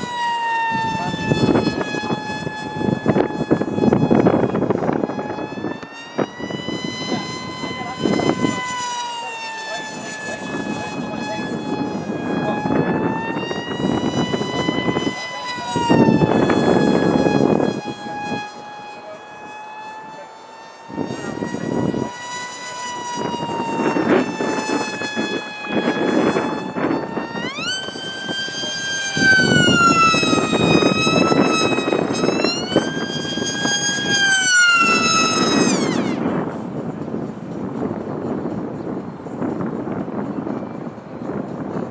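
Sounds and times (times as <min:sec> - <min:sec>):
model aircraft motor whining: 0:00.0 - 0:40.7
wind buffeting microphone: 0:00.0 - 0:41.9.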